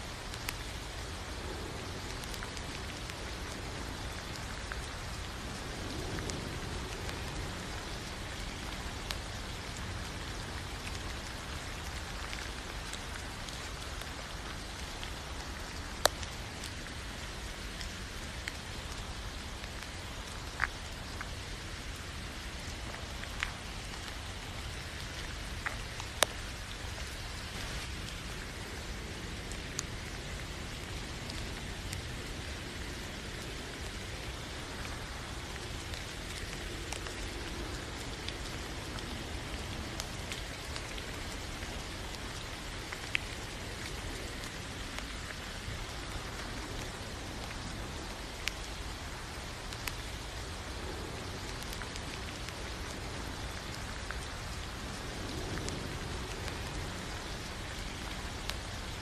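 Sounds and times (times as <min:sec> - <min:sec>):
steady rain hissing: 0:00.0 - 0:59.0.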